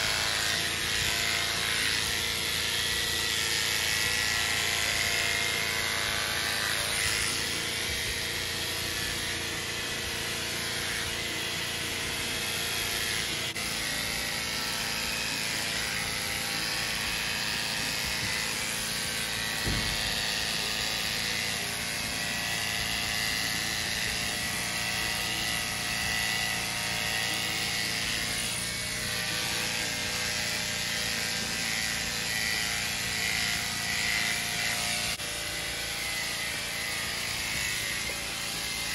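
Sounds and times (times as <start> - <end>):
electric clippers buzzing: 0.0 - 38.9.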